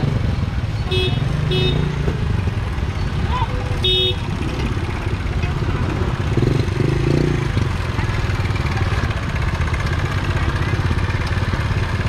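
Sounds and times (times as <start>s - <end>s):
motorbike engine running: 0.0s - 12.0s
street noise: 0.0s - 12.0s.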